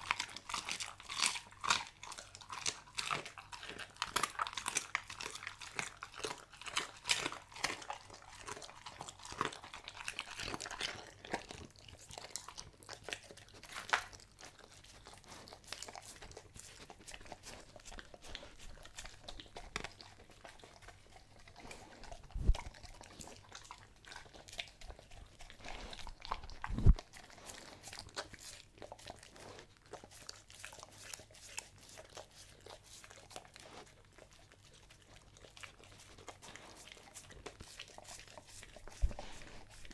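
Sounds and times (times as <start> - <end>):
dog crunching and chewing: 0.0 - 39.9.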